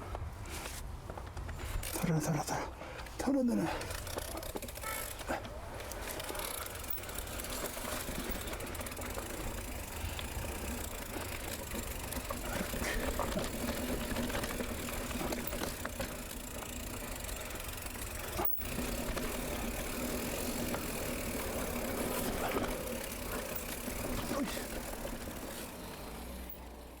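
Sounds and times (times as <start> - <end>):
bike tyres rolling on dirt: 0.0 - 27.0.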